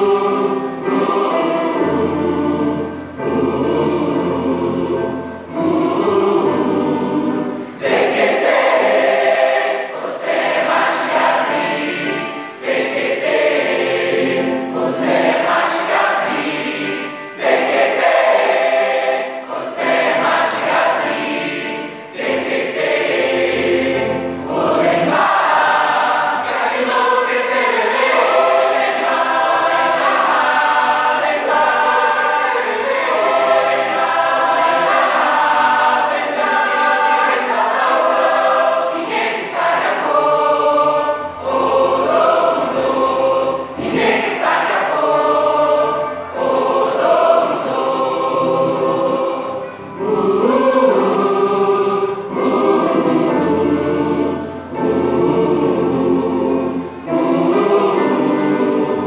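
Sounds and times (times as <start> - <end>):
youth choir singing in harmony: 0.0 - 59.0.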